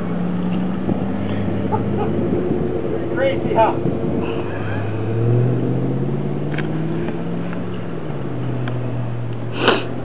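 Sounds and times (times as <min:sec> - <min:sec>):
motorboat engine running: 0:00.0 - 0:09.5.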